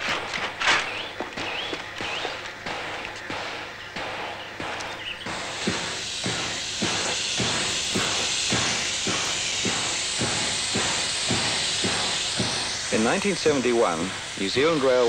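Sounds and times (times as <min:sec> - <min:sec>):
steam locomotive hissing: 0:00.0 - 0:15.0
steam engine pulsing beat: 0:01.0 - 0:15.0.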